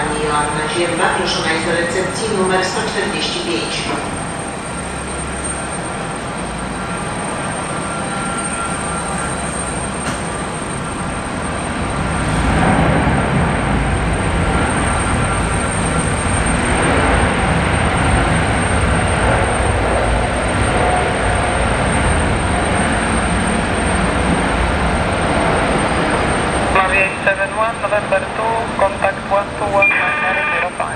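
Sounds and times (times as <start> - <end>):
jet airliner engine rush: 0.0 - 30.9.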